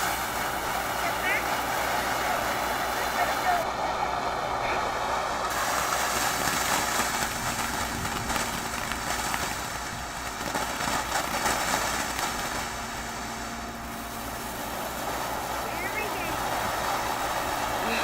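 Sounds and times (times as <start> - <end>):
firework crackling: 0.0 - 18.0
steady low rumble: 0.0 - 18.0.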